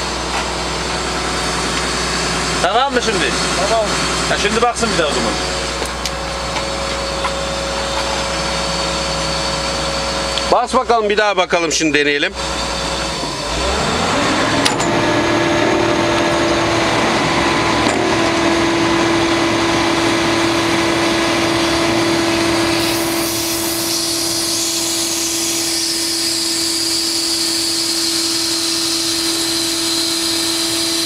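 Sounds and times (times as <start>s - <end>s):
engine running: 0.0s - 31.0s
hydraulic pump whine: 0.0s - 31.0s.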